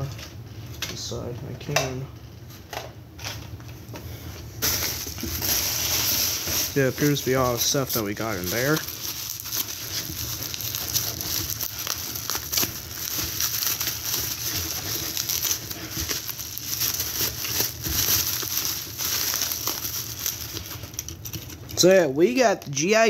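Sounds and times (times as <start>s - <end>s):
bubble wrap crinkling: 1.6s - 22.6s.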